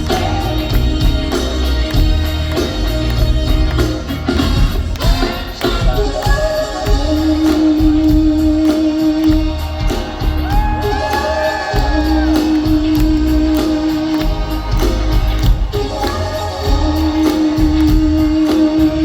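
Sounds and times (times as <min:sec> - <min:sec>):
bass and drum beat: 0:00.0 - 0:19.0
live band music: 0:00.0 - 0:19.0.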